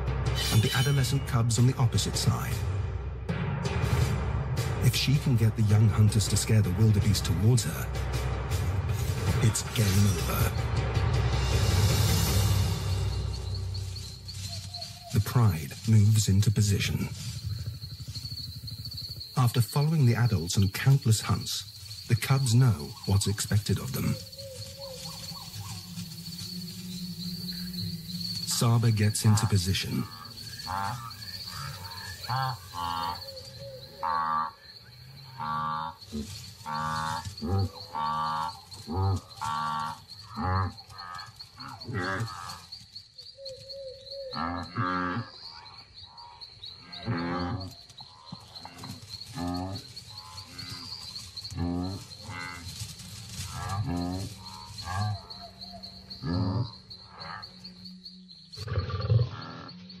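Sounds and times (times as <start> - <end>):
crickets trilling: 0.0 - 2.7, 3.4 - 60.0.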